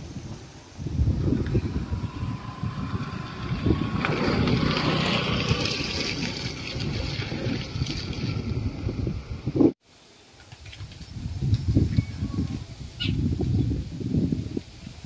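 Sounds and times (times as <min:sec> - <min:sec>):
high rustling hiss: 0:00.0 - 0:06.8, 0:09.5 - 0:15.0
wind buffeting microphone: 0:00.0 - 0:09.8, 0:10.6 - 0:15.0.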